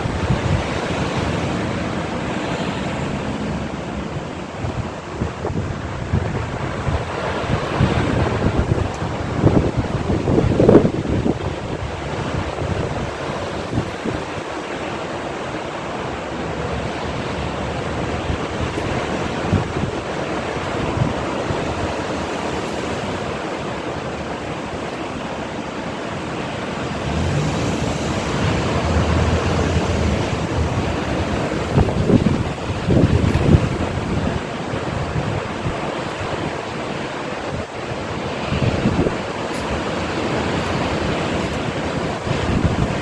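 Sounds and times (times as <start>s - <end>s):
waves surging and breaking: 0.0s - 43.0s
wind buffeting microphone: 0.0s - 43.0s.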